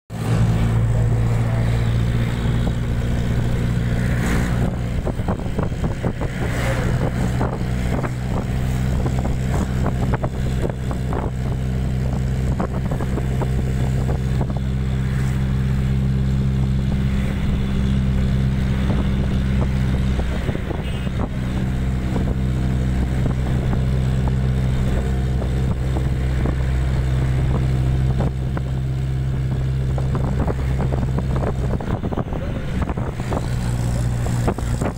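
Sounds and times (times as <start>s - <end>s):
bus engine droning: 0.1s - 34.9s
road noise: 0.1s - 34.9s.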